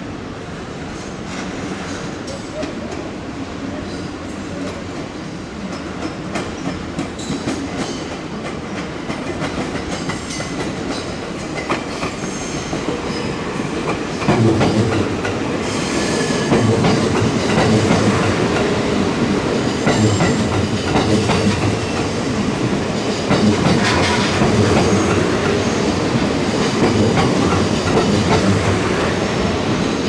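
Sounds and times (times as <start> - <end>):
train wheels clacking over rails: 0.8 - 3.2, 3.8 - 30.0.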